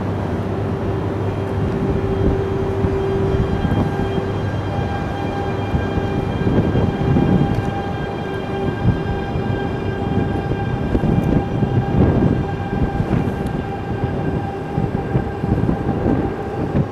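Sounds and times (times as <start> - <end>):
steady whine: 0.0 - 16.9
train wheels rumbling on rail: 0.0 - 16.9.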